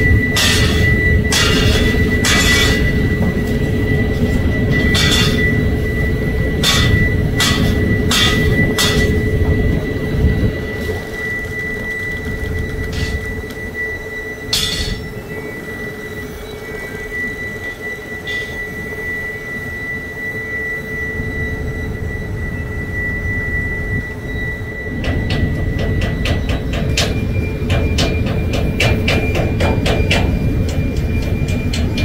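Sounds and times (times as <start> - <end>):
high-pitched whine: 0.0 - 32.0
industrial machinery drone: 0.0 - 32.0.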